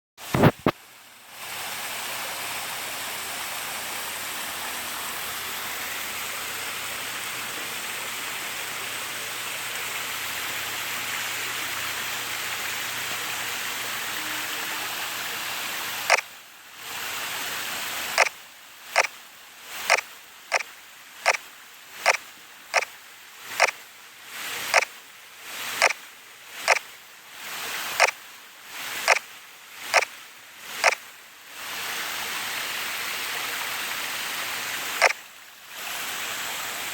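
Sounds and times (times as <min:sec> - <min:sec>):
waterfall pouring: 0:00.2 - 0:36.9.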